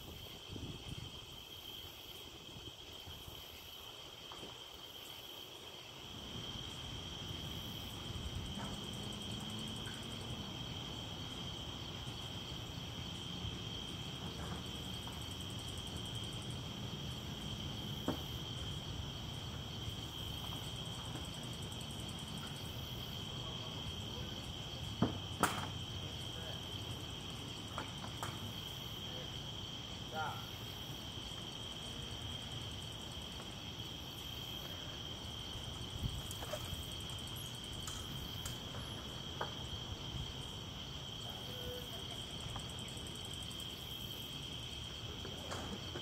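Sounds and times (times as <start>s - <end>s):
night insects chirring: 0.0s - 46.0s.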